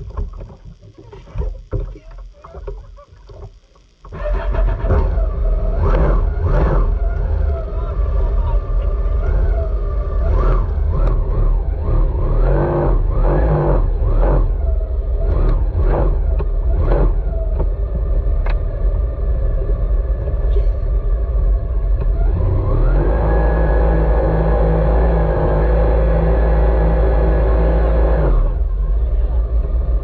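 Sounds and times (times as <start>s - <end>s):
jet ski engine droning: 0.0s - 30.0s.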